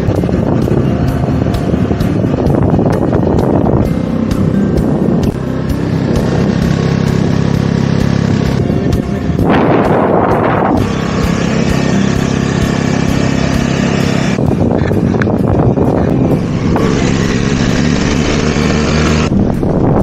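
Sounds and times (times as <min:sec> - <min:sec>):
scooter engine running: 0:00.0 - 0:20.0
wind and road noise: 0:00.0 - 0:20.0.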